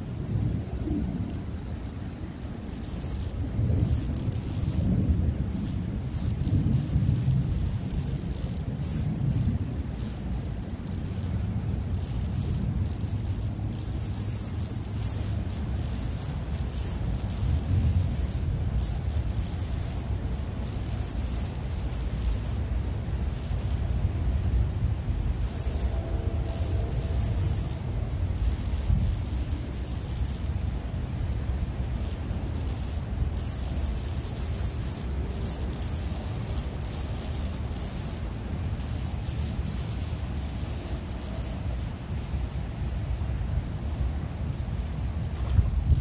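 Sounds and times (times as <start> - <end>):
wind rumbling on microphone: 0.0 - 46.0
high insect buzz: 1.6 - 24.1, 25.1 - 46.0.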